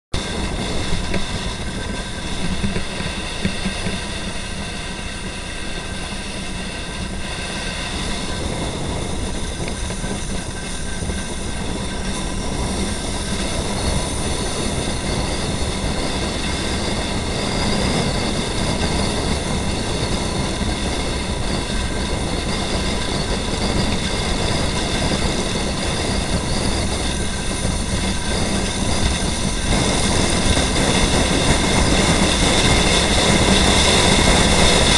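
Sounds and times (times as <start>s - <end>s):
road noise: 0.1s - 34.9s
wind on microphone: 0.1s - 34.9s
faint high whines: 0.2s - 34.9s
motorcycle engine running: 0.2s - 34.9s.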